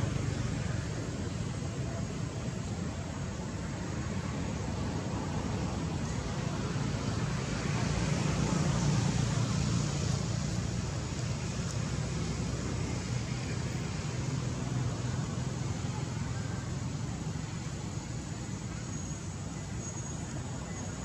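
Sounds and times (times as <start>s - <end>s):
outdoor rumble and hiss: 0.0s - 21.0s.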